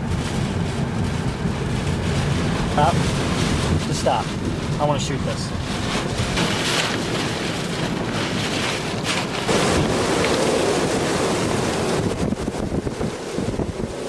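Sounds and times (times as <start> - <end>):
driving rain: 0.0 - 14.0
strong wind buffeting microphone: 0.0 - 14.0.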